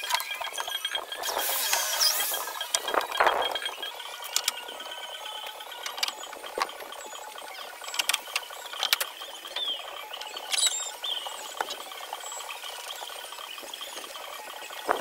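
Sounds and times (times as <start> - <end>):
fast ticking: 0.0 - 15.0.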